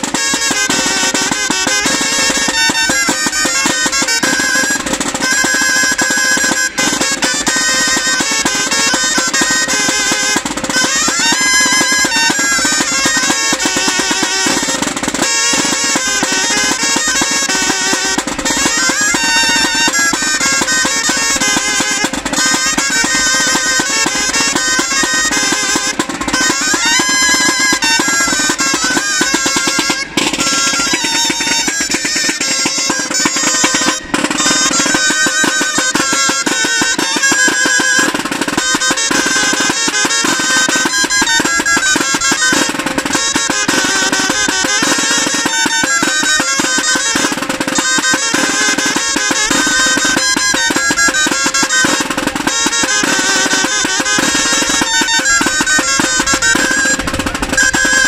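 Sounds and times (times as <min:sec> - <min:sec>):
drums and snare rolls: 0:00.0 - 0:58.0
reed wind instruments melody: 0:00.0 - 0:58.0.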